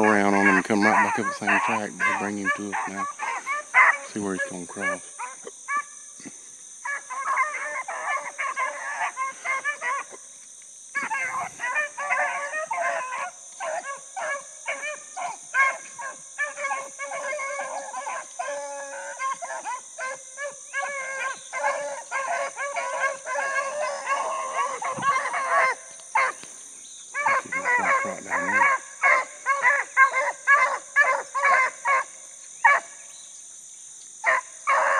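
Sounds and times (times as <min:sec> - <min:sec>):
hounds baying: 0:00.0 - 0:06.1, 0:06.8 - 0:10.3, 0:11.0 - 0:33.1, 0:34.2 - 0:34.9.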